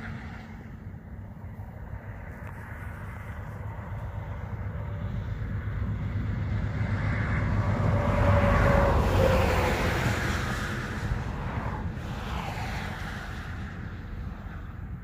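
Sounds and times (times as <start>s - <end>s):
vehicle passing by: 0.0s - 15.0s
wind rumble on microphone: 0.0s - 15.0s.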